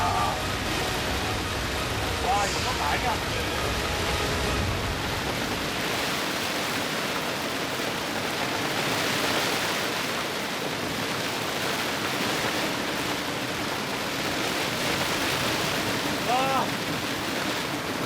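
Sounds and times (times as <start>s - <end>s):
strong wind and sea rushing: 0.0s - 18.0s.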